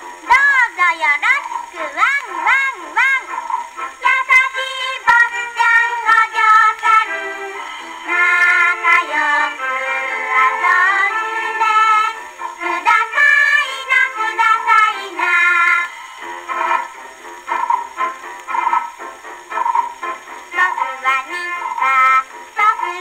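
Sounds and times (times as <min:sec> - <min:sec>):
children singing on old record: 0:00.0 - 0:23.0.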